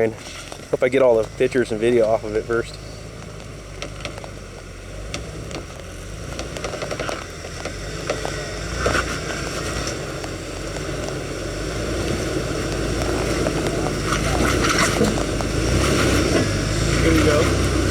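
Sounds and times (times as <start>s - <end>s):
off-road engine running: 0.0s - 17.9s.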